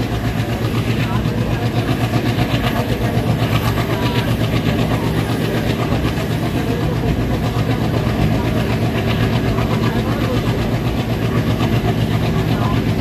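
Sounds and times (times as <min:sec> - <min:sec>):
locomotive diesel engine chugging: 0:00.0 - 0:13.0
train running noise: 0:00.0 - 0:13.0.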